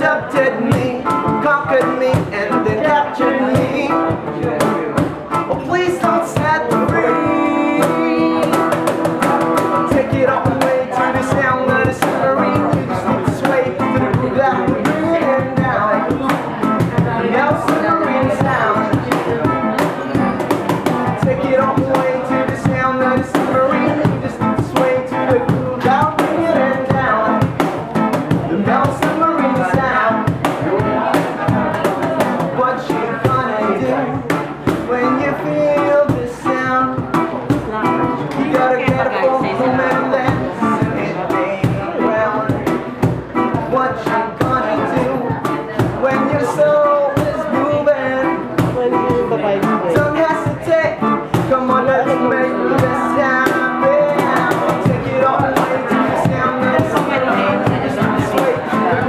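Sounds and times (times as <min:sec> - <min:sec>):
cajon slaps: 0:00.0 - 0:52.2, 0:52.8 - 0:59.0
electric guitar: 0:00.0 - 0:59.0
man singing: 0:00.0 - 0:59.0.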